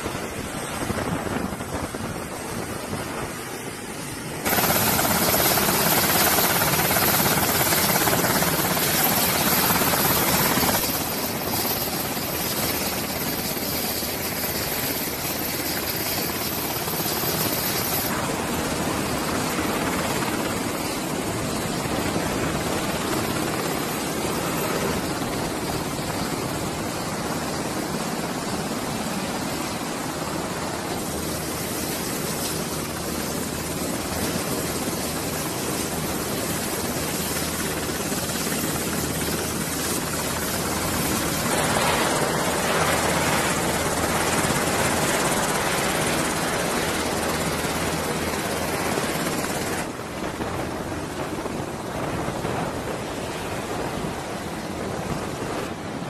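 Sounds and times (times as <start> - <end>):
helicopter rotors and engines: 0.0 - 56.0.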